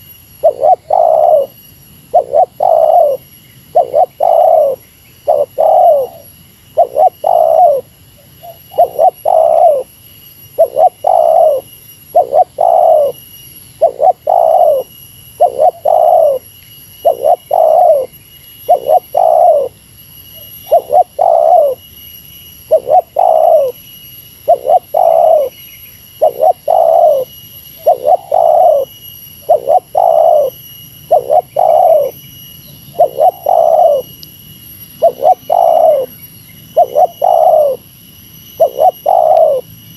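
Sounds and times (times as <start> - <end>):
dove cooing: 0.0 - 9.9, 10.6 - 13.2, 13.8 - 19.8, 20.4 - 21.8, 22.7 - 23.8, 24.4 - 25.6, 26.2 - 32.2, 32.9 - 34.2, 35.0 - 37.9, 38.6 - 39.7
faint high whine: 0.0 - 39.9.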